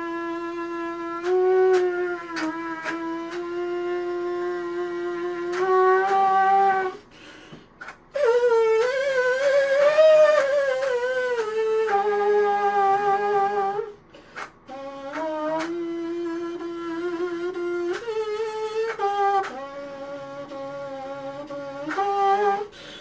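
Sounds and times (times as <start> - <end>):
trumpet playing slow tune: 0.0 - 7.0, 8.2 - 14.0, 14.7 - 22.8.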